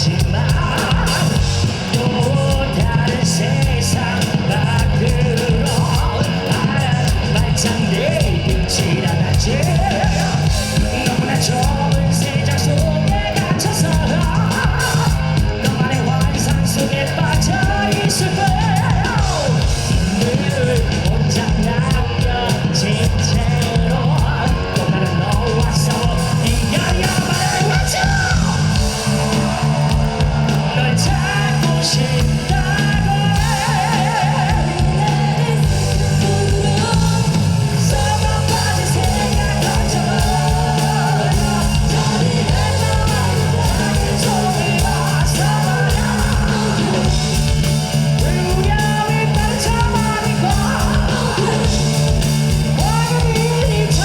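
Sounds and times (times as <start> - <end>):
bass guitar: 0.0 - 54.0
distorted electric guitars: 0.0 - 54.0
drums: 0.0 - 54.0
high rock vocal: 0.0 - 54.0.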